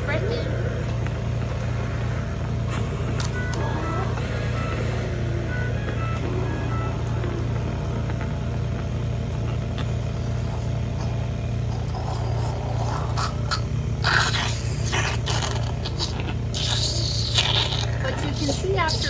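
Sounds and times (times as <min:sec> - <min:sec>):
suction machine humming: 0:00.0 - 0:19.0
suction catheter slurping: 0:00.6 - 0:19.0.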